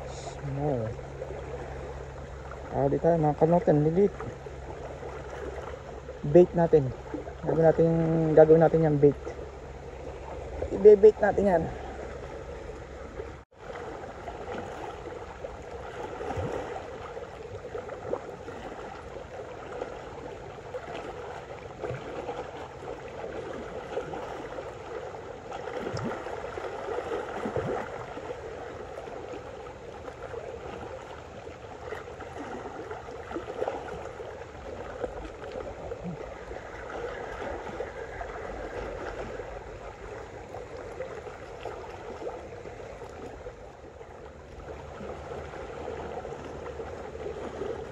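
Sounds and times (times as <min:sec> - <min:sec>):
waves lapping against rocks: 0:00.0 - 0:47.9.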